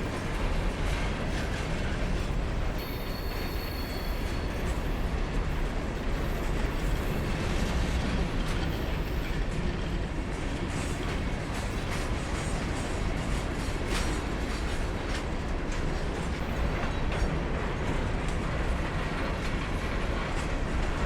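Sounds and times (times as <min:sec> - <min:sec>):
freight train rumbling past: 0:00.0 - 0:21.0
train wheels on rail: 0:00.0 - 0:21.0.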